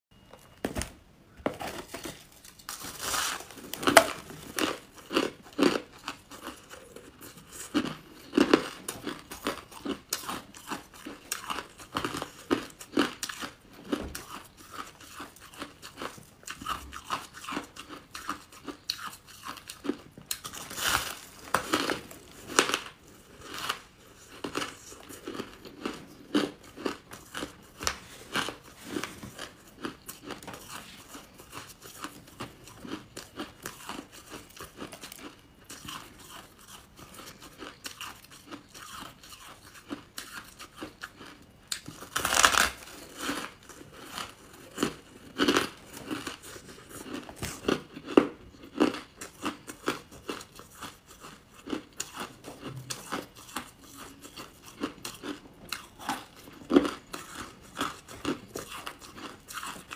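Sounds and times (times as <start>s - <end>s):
crunchy food crunching: 1.6s - 59.9s.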